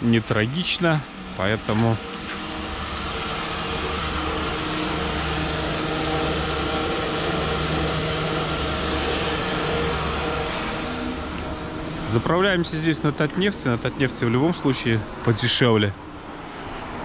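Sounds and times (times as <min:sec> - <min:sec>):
fuel pump drone and hiss: 0:00.0 - 0:17.0.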